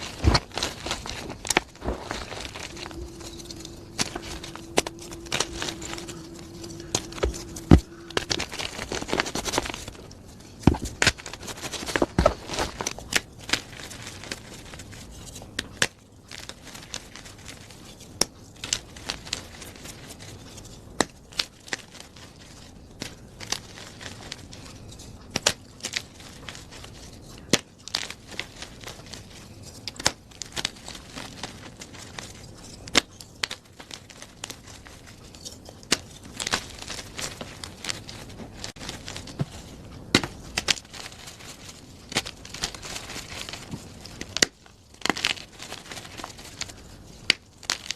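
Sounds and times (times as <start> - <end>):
chalk crunching: 0.0 - 47.9.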